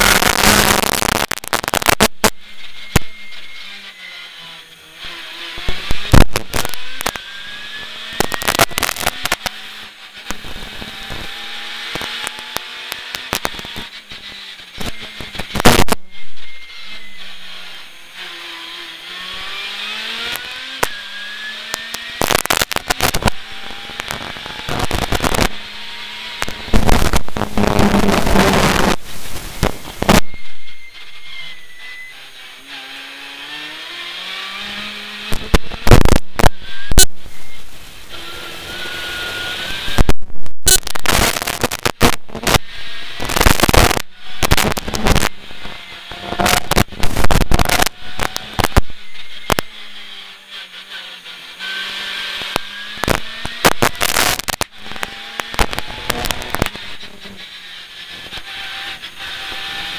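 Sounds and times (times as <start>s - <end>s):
rally car engine revving: 0.0s - 40.1s, 41.0s - 59.9s.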